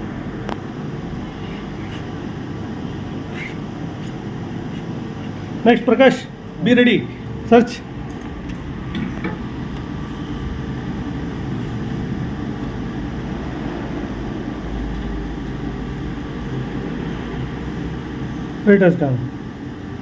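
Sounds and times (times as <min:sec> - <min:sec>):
fan whirring: 0:00.0 - 0:20.0.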